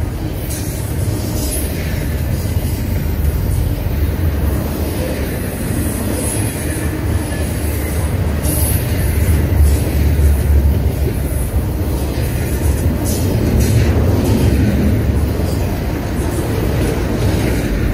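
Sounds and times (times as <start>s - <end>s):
steel wheels rumbling on rails: 0.0s - 17.9s.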